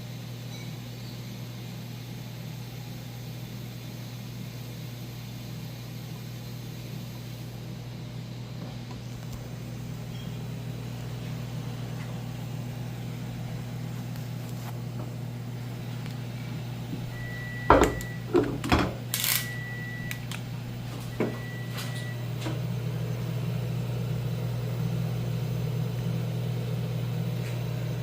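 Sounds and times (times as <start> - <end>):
refrigerator humming: 0.0 - 28.0.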